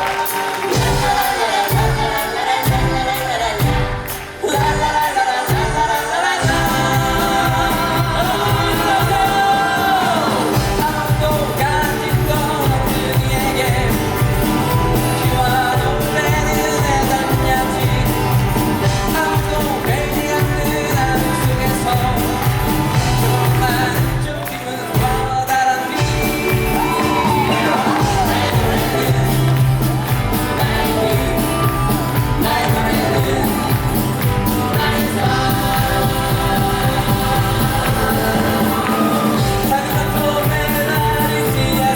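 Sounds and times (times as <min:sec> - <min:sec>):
cast singing with band: 0:00.0 - 0:41.9.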